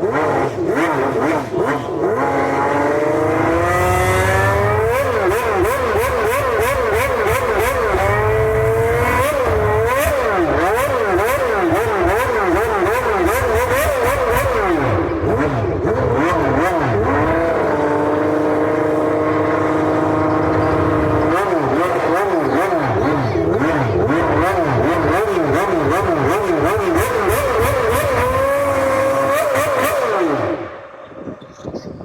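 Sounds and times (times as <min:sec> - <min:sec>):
race car engine revving: 0:00.0 - 0:31.3.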